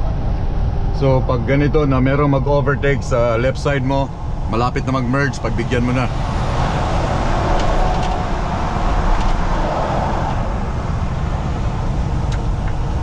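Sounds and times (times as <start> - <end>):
truck engine drone and road noise: 0.0 - 13.0.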